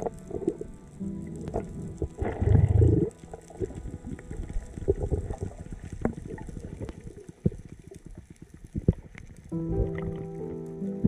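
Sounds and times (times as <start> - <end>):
low underwater rush of water: 0.0 - 10.6
crackle of sharp clicks: 0.0 - 11.0.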